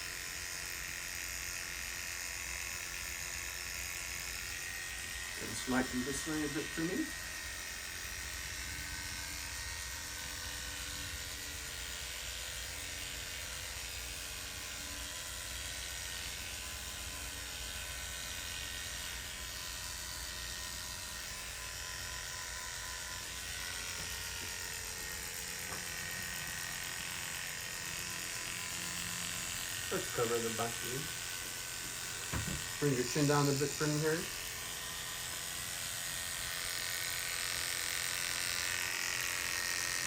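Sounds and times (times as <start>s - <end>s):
electric hair clippers buzzing: 0.0s - 40.0s.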